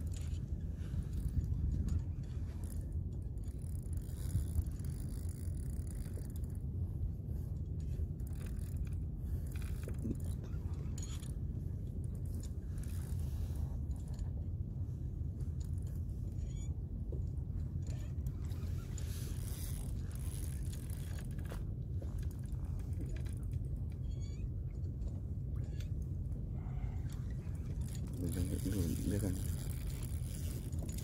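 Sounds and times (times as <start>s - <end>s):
light clicks and scrapes: 0.0s - 14.5s, 15.3s - 31.0s
wind and water rumble: 0.0s - 31.0s.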